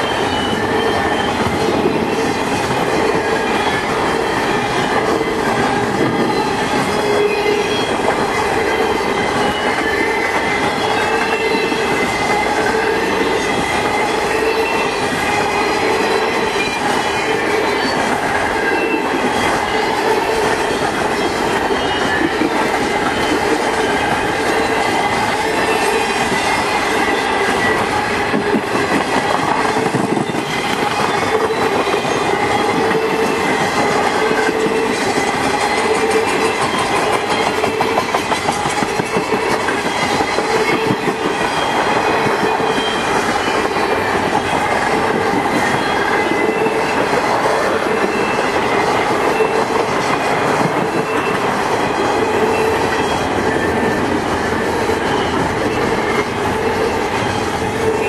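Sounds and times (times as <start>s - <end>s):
freight train wheels clattering: 0.0s - 58.0s
wheels squealing: 0.0s - 58.0s.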